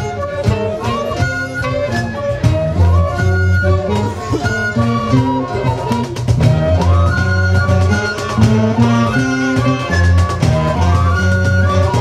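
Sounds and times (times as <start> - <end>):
fiddles: 0.0 - 12.0
saxophones: 0.0 - 12.0
strummed guitars: 0.0 - 12.0.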